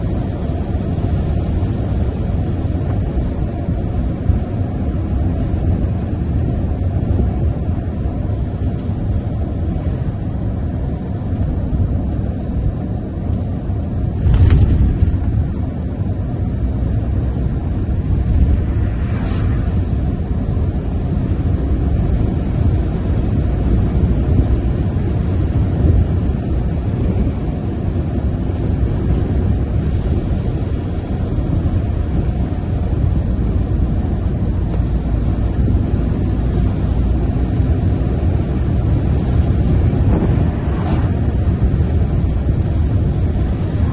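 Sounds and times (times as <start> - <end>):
truck engine and tyre rumble: 0.0 - 43.9.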